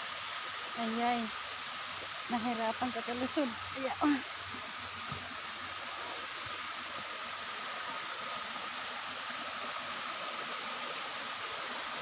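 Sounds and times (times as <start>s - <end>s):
mountain stream flowing: 0.0s - 12.0s.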